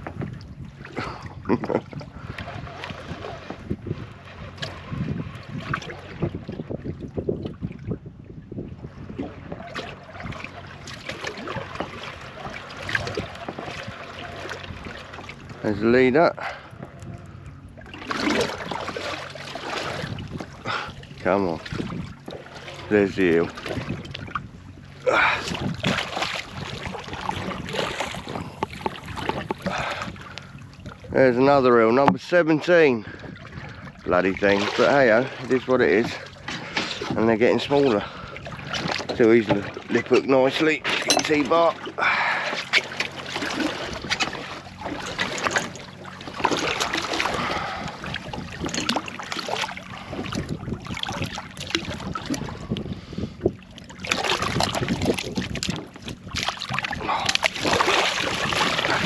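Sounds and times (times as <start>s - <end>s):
wind buffeting microphone: 0.0s - 42.5s, 43.3s - 59.0s
knocks and clatter on boat: 0.0s - 59.0s.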